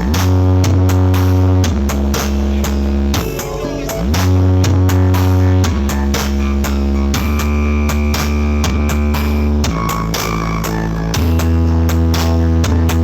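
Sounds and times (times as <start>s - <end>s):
electronic dance music: 0.0s - 13.0s
heavy bass notes: 0.0s - 13.0s.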